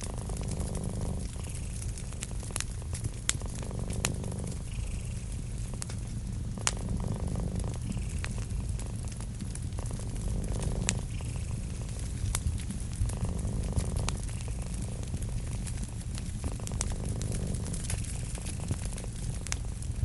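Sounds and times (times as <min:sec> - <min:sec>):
cat purring: 0:00.0 - 0:20.0
wood fire crackling and popping: 0:00.0 - 0:20.0.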